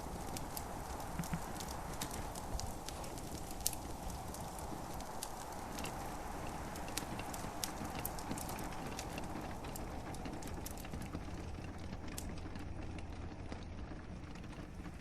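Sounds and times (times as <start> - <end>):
gentle rain: 0.0 - 15.0
wood fire crackling and popping: 0.0 - 15.0.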